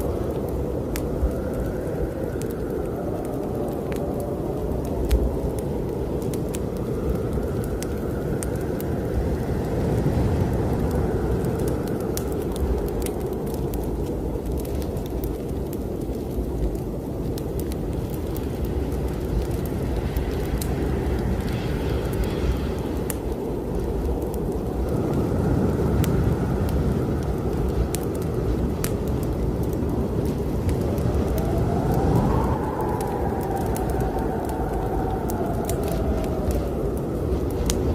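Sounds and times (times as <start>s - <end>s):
fireplace fire crackling: 0.0s - 37.9s
gusting snowstorm wind: 0.0s - 37.9s.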